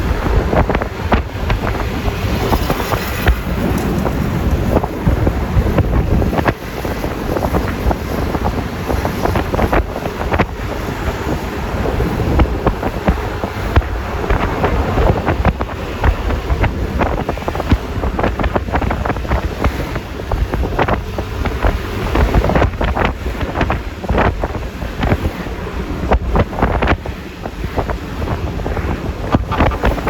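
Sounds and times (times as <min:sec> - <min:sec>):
road and engine rumble: 0:00.0 - 0:30.0
wind buffeting microphone: 0:00.0 - 0:30.0.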